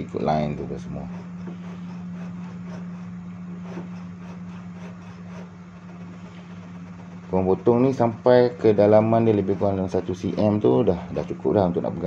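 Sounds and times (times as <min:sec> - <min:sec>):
steady low hum: 0:00.0 - 0:12.0
hand saw cutting wood: 0:00.5 - 0:11.9.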